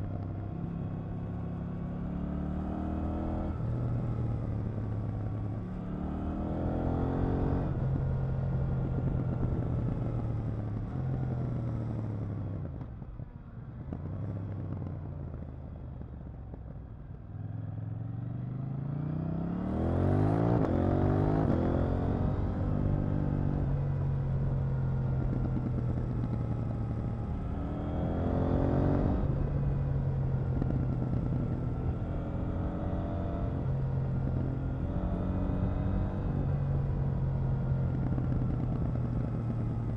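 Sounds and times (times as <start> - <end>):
motorcycle engine revving: 0.1 - 12.7, 17.2 - 39.9.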